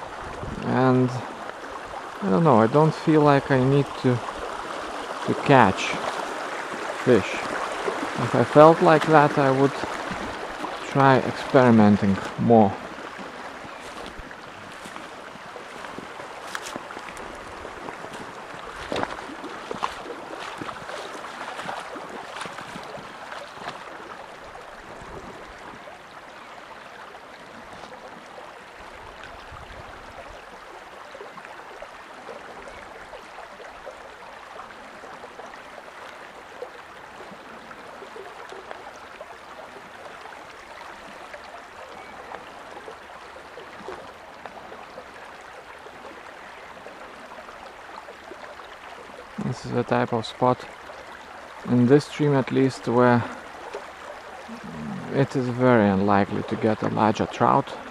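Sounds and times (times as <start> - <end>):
stream flowing: 0.0 - 57.9.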